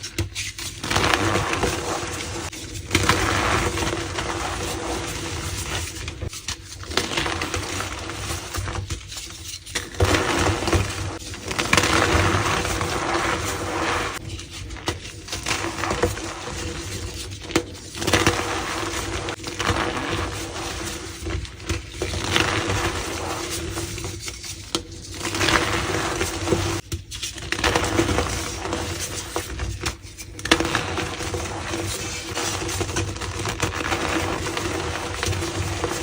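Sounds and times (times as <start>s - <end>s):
squeaks from packed powder: 0.0s - 36.0s.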